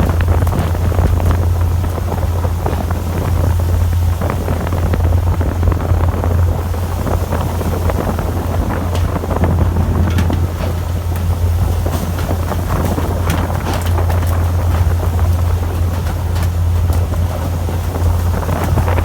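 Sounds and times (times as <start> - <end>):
boat engine droning: 0.0 - 19.0
wind buffeting microphone: 0.0 - 19.0.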